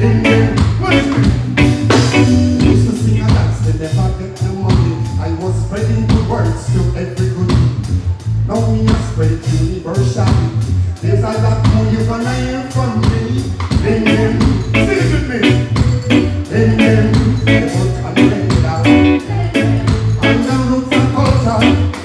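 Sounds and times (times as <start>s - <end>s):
bass guitar: 0.0s - 22.0s
drum kit beat: 0.0s - 22.0s
man singing: 0.0s - 22.0s.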